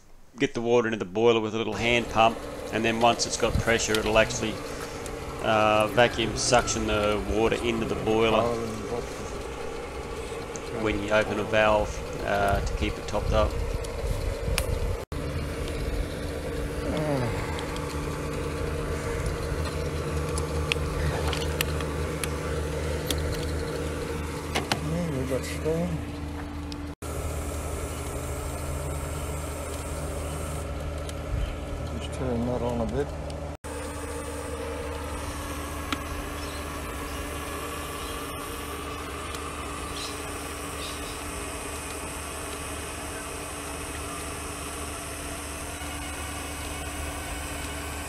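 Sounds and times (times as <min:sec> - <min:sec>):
motor humming: 0:01.5 - 0:48.0.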